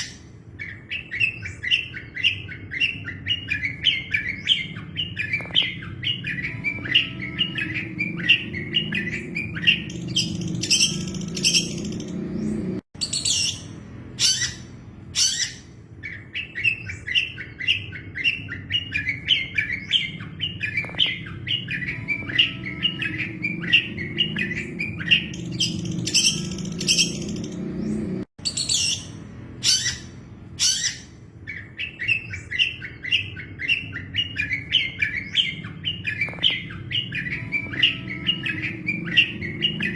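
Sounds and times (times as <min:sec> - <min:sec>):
bird chattering chirps: 0:00.0 - 0:39.9
harsh screechy bird calls: 0:00.0 - 0:39.9.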